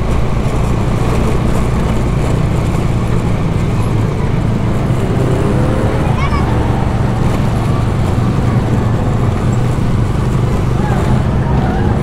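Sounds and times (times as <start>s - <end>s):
motorcycle engine running: 0.0s - 12.0s
tyres rolling over cobblestones: 0.0s - 12.0s.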